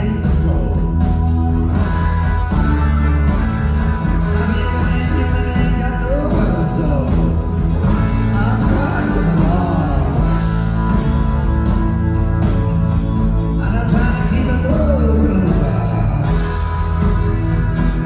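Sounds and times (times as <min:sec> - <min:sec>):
live blues rock band: 0:00.0 - 0:18.0.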